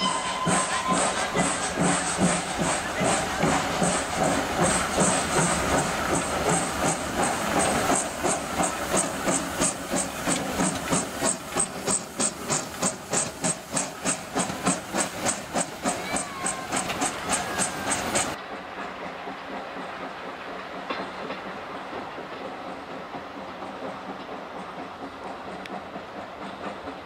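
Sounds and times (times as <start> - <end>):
steam locomotive puffing: 0.0 - 27.0.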